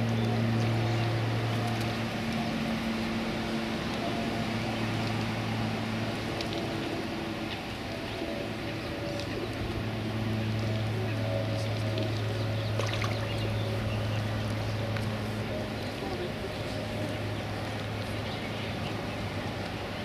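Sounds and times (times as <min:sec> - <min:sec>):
constant rushing noise: 0:00.0 - 0:20.0
low mechanical hum: 0:00.0 - 0:20.0.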